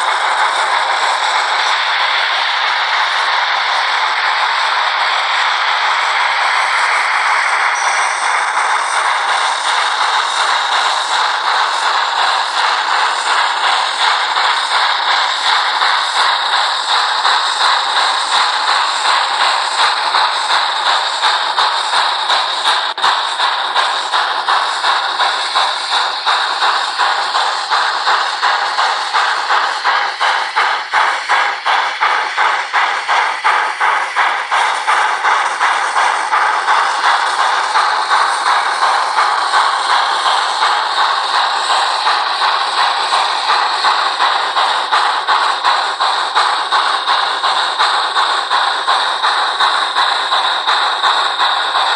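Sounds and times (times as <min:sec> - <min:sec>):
model train running on track: 0:00.0 - 0:51.9
model train steam chuffing: 0:00.0 - 0:51.9.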